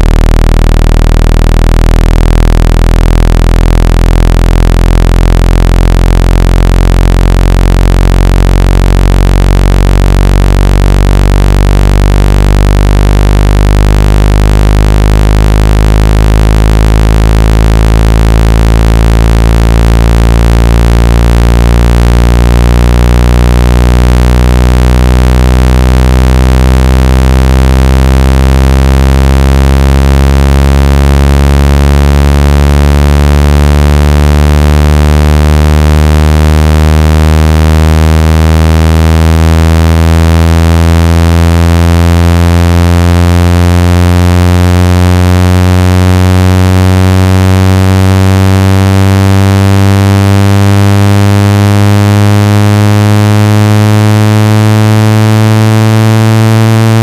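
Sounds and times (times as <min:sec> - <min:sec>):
low electronic buzz: 0:00.0 - 0:57.0.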